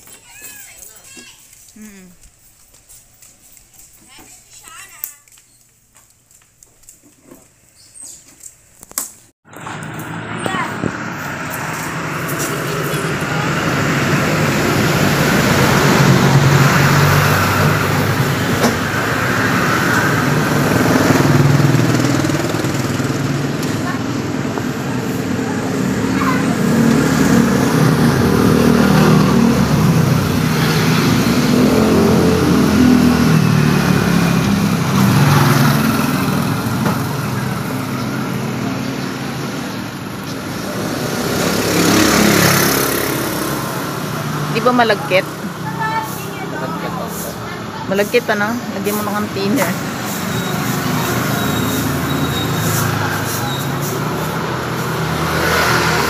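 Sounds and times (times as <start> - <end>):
vehicle engine humming: 9.4 - 56.0.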